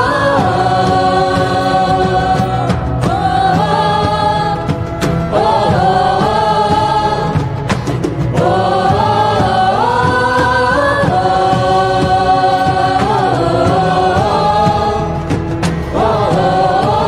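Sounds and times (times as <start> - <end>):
musical accompaniment: 0.0 - 17.0
voices singing devotional song: 0.0 - 17.0.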